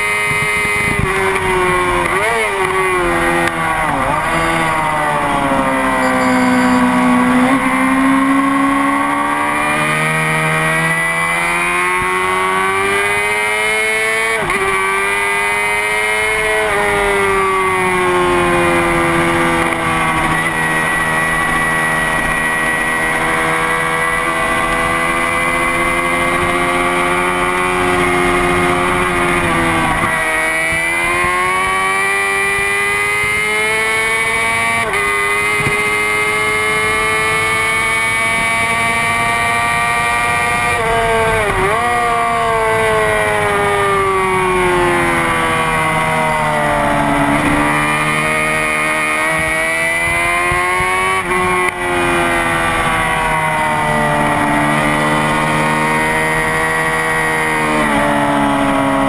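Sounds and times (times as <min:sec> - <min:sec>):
sport bike engine racing: 0:00.0 - 0:59.0.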